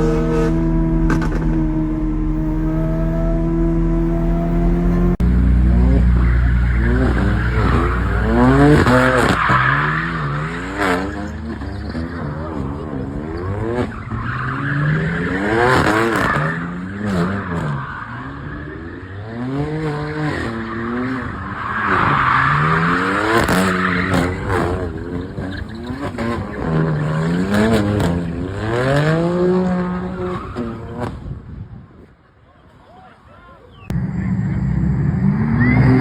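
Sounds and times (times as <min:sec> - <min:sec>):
sports car engine revving: 0:00.0 - 0:30.8.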